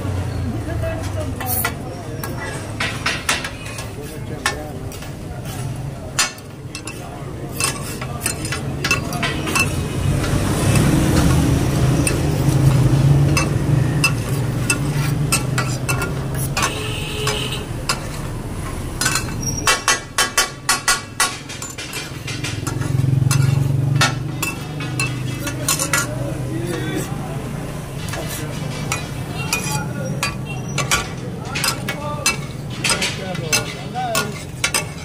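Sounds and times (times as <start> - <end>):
metal spatula scraping griddle: 1.4 - 35.0
sharp metal clacks: 1.4 - 35.0.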